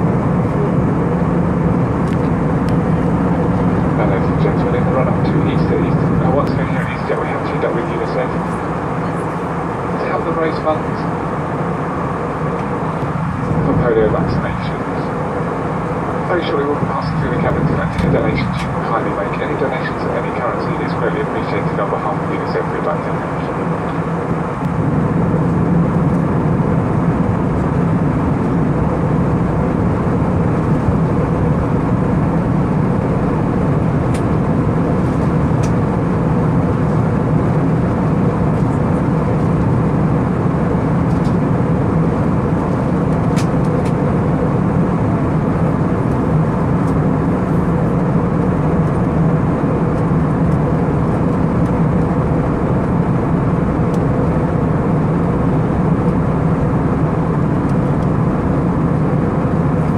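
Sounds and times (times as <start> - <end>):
airliner cabin engine rush: 0.0 - 59.9
low cabin hum: 0.0 - 59.9.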